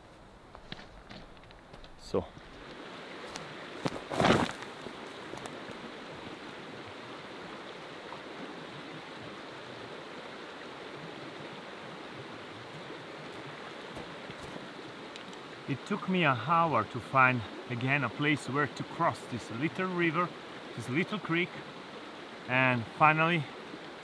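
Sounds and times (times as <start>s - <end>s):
creek rushing: 0.9s - 24.0s.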